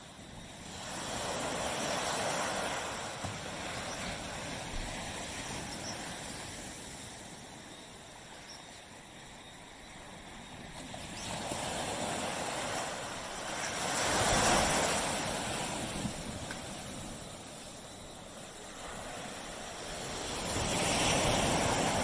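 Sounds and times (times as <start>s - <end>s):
waves breaking on a beach: 0.0s - 22.0s.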